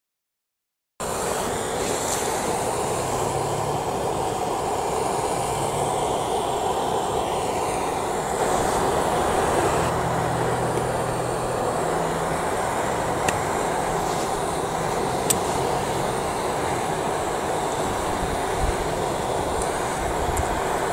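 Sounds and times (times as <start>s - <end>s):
gas torch hissing: 1.0s - 20.9s.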